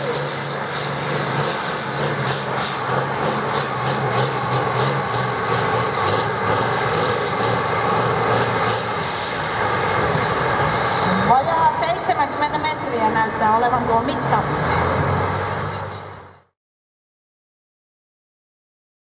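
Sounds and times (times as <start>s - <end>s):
tractor engine running loud: 0.0s - 16.5s.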